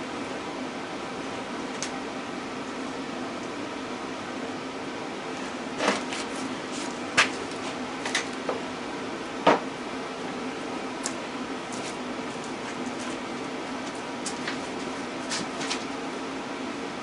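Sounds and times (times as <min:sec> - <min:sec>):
heater humming: 0:00.0 - 0:17.0.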